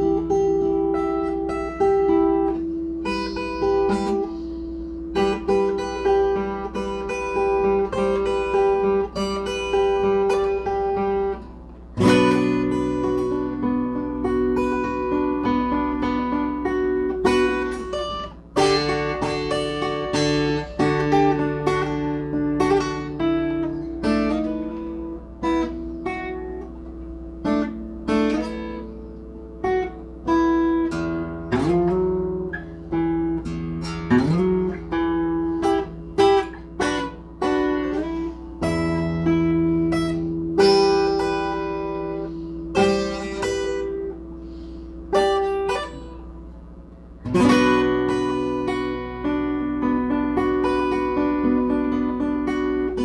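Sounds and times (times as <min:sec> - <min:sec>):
acoustic guitar playing: 0:00.0 - 0:53.0.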